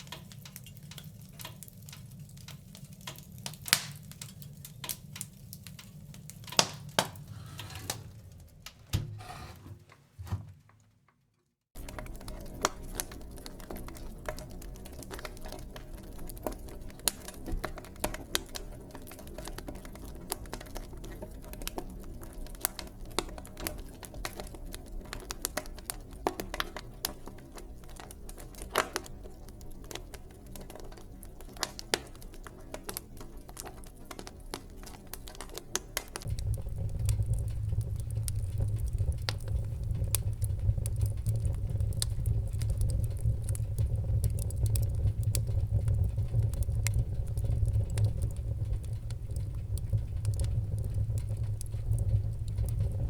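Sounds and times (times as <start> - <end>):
wood fire crackling and popping: 0.0 - 9.0, 11.7 - 53.0
low rumble of burning: 0.0 - 9.4, 11.7 - 53.0.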